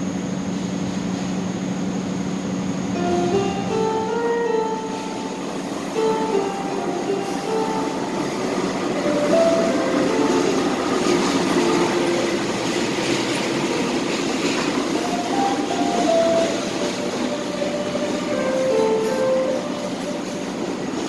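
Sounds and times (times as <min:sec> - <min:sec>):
diesel locomotive passing: 0:00.0 - 0:21.0
train wheels on rails: 0:00.0 - 0:21.0.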